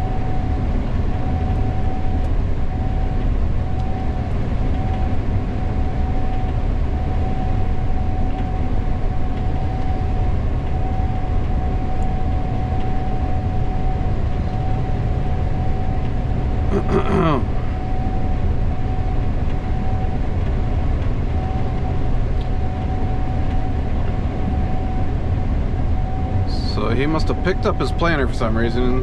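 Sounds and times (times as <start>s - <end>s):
combine engine rumble: 0.0s - 29.0s
steady machine whine: 0.0s - 29.0s.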